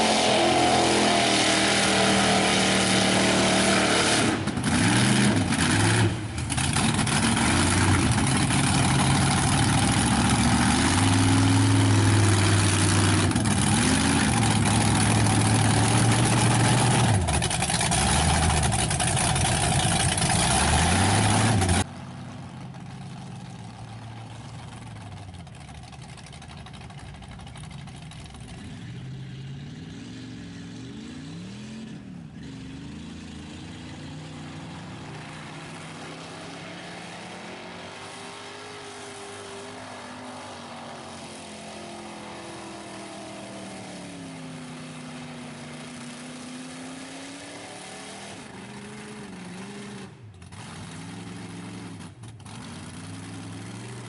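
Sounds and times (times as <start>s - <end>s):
truck churning through mud: 0.0s - 54.0s
truck engine revving: 0.0s - 54.0s.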